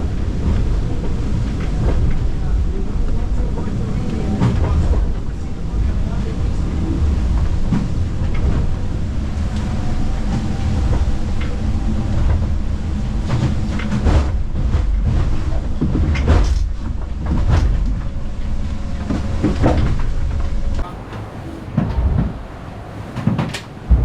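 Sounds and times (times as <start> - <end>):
yacht hull rumbling through sea: 0.0 - 24.0
hull slamming into waves: 4.3 - 24.0.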